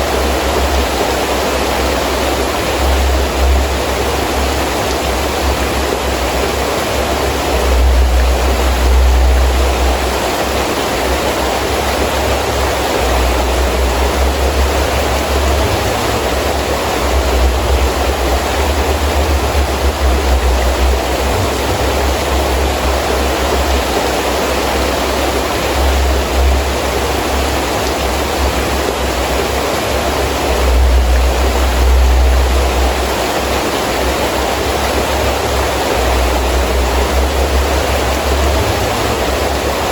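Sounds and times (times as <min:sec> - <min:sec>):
gusting wind rumble: 0:00.0 - 0:39.9
heavy rain falling: 0:00.0 - 0:39.9.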